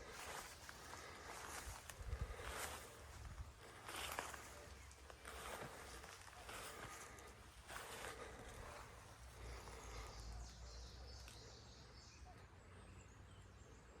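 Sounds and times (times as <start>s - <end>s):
distant birds chirping: 2.2s - 14.0s.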